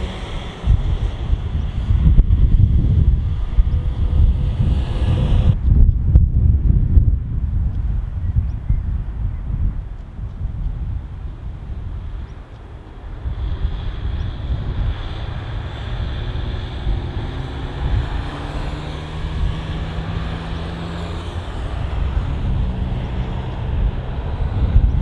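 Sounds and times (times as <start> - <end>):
jet aircraft engines passing: 0.0 - 6.7, 10.8 - 25.0.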